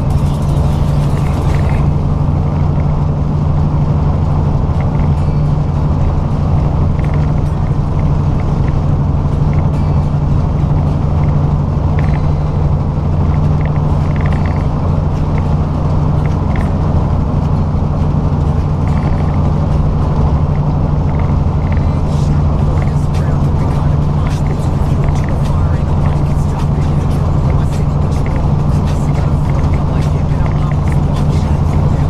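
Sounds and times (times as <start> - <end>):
diesel truck engine droning: 0.0 - 32.0
road noise: 0.0 - 32.0.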